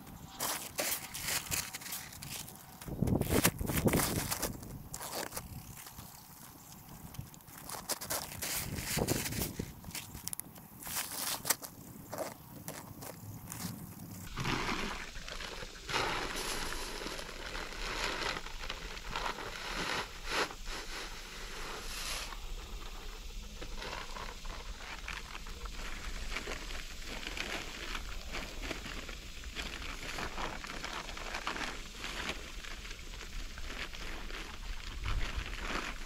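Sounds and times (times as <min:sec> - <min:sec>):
plastic sacks rustling and crinkling: 0:00.0 - 0:36.0.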